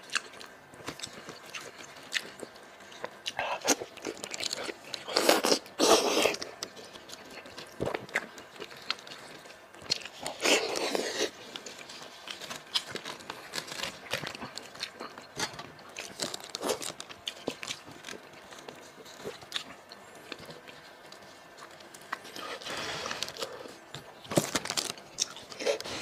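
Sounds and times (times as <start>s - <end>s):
wet chewing and biting: 0.1s - 25.9s.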